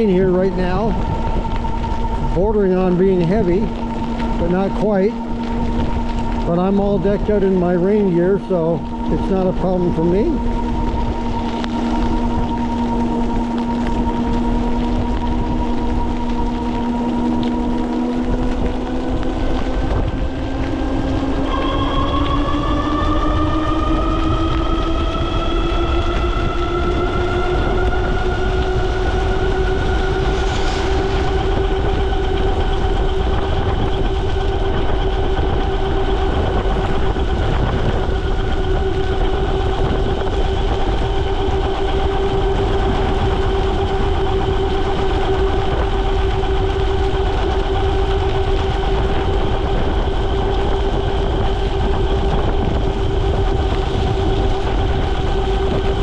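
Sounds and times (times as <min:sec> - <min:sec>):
tyres on wet road: 0:00.0 - 0:56.0
wind rumble: 0:00.0 - 0:56.0.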